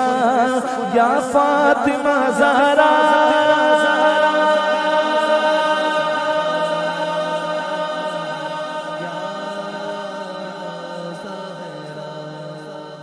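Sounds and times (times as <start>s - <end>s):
man singing a long note: 0.0s - 13.0s
voices chanting drone: 0.0s - 13.0s.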